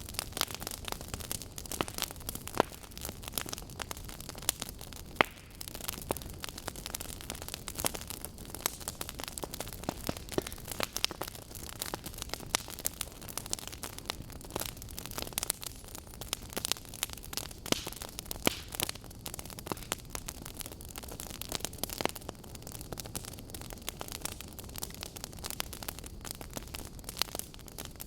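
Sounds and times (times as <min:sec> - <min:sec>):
logs crackling and popping: 0:00.0 - 0:28.0.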